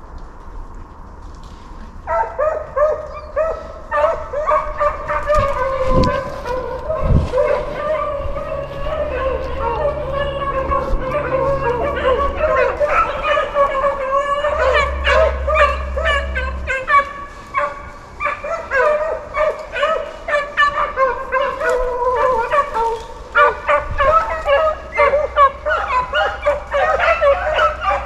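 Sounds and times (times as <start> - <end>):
dogs baying: 2.0 - 28.0.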